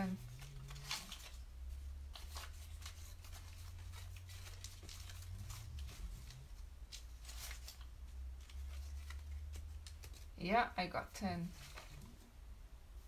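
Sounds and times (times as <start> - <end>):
light rustles and scratches: 0.0 - 10.4, 11.3 - 12.3
low steady hum: 0.0 - 13.0.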